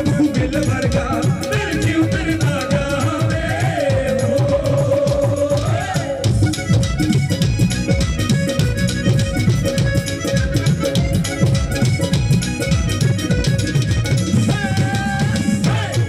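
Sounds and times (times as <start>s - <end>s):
fast hand drumming: 0.0s - 16.0s
reedy keyboard melody: 0.0s - 16.0s.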